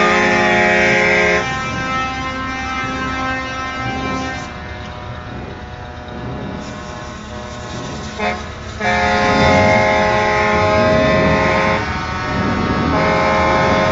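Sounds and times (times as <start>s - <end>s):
truck air horn: 0.0s - 5.4s, 6.6s - 13.9s
diesel engine running: 0.0s - 13.9s.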